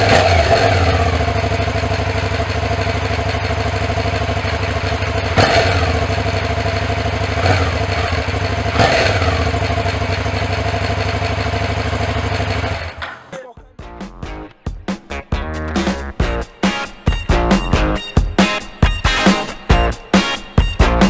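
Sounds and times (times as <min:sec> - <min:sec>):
motorcycle engine idling and revving: 0:00.0 - 0:13.2, 0:14.1 - 0:21.0.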